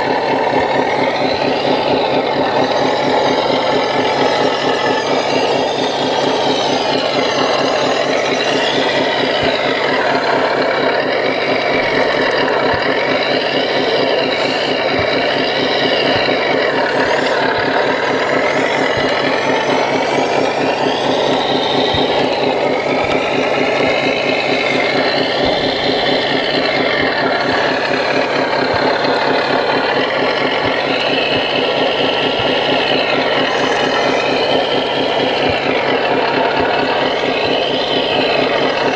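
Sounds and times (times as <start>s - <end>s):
diesel engine idle sound module: 0.0s - 38.9s
electric motors whining: 0.0s - 38.9s.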